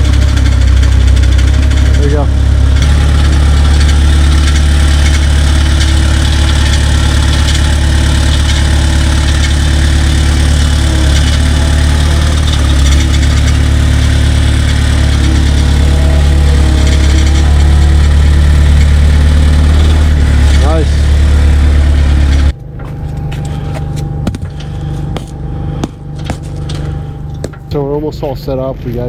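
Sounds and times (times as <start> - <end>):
machine engine running: 0.0 - 28.5.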